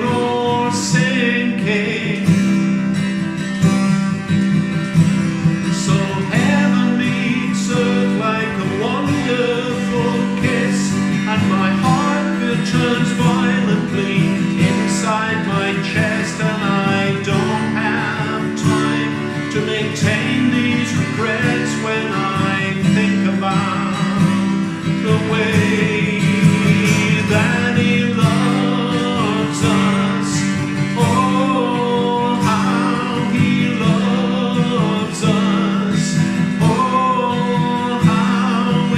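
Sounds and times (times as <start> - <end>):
person singing: 0.0 - 4.2, 5.2 - 38.9
strummed acoustic guitar: 0.0 - 38.9.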